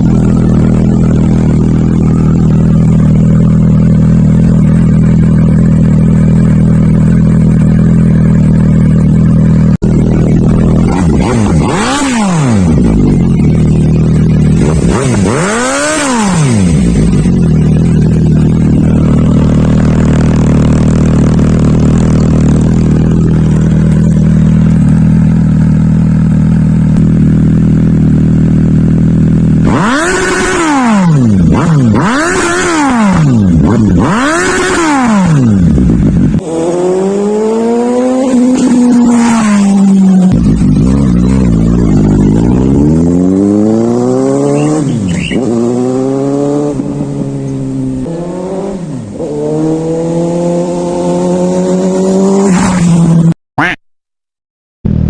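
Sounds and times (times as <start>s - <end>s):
motorcycle engine idling and revving: 0.0s - 53.8s.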